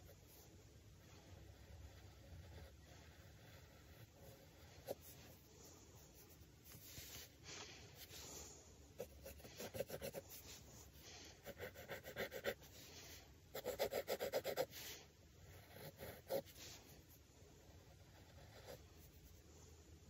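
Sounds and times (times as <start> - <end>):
pencil scratching on paper: 0.0 - 19.5.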